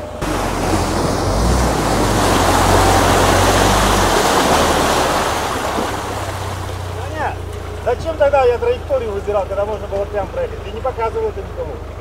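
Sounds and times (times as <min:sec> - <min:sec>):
low engine hum: 0:00.0 - 0:12.0
mud and water splashing: 0:00.0 - 0:12.0.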